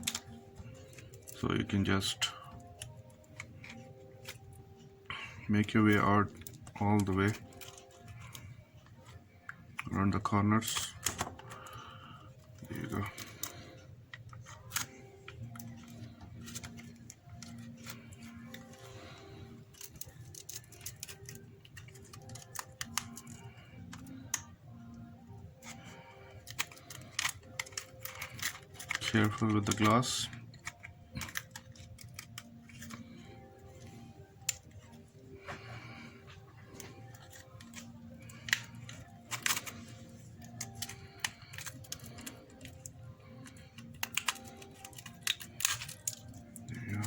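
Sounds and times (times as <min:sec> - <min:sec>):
soft background music: 0:00.0 - 0:47.0.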